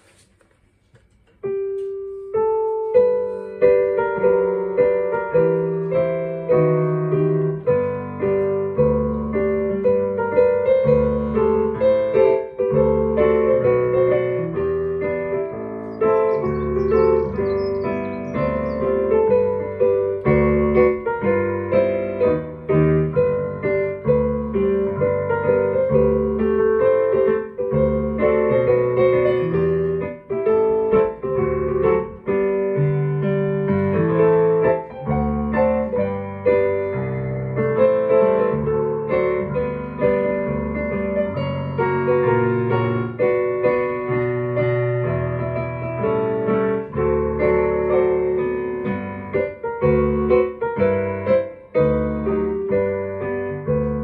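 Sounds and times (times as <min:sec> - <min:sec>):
digital piano playing: 0:01.2 - 0:54.0.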